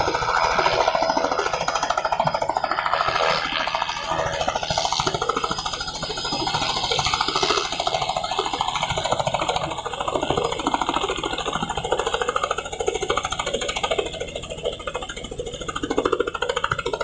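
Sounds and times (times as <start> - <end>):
helicopter engine drone: 0.0 - 17.0
helicopter rotor chop: 0.0 - 17.0.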